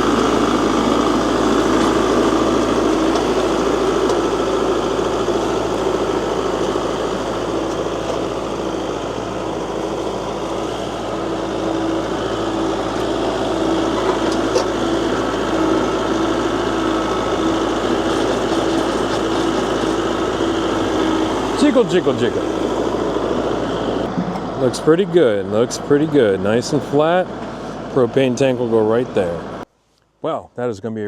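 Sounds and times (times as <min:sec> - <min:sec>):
tractor diesel engine running: 0:00.0 - 0:29.7.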